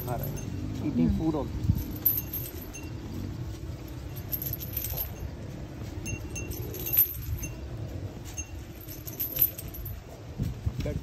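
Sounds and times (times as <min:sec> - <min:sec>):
low rumble of movement: 0:00.0 - 0:11.0
metallic jingling and clinking: 0:00.0 - 0:11.0.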